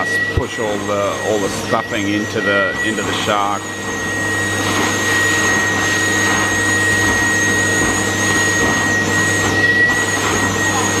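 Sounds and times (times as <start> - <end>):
stuffing machine blower running: 0.0 - 11.0.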